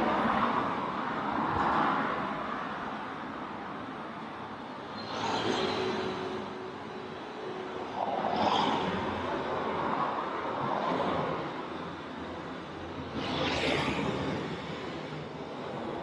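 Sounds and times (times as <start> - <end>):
passing vehicles: 0.0 - 16.0.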